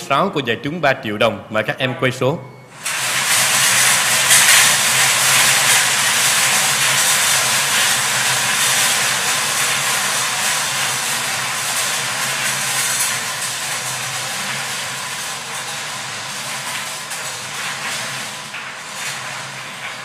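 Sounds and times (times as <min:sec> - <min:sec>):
lottery balls tumbling and clattering: 0:02.9 - 0:20.0.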